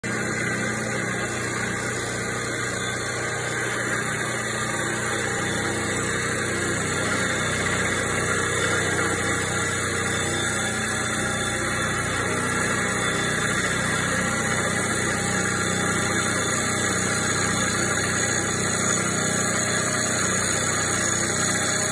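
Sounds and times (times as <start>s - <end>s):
milling machine humming: 0.0s - 21.9s.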